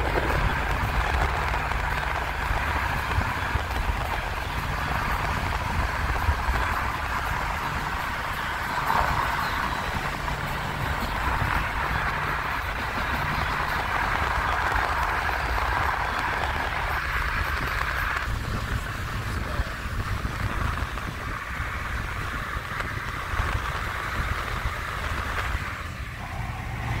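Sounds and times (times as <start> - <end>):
car interior rumble: 0.0 - 27.0
tyre and wind hiss: 0.0 - 27.0.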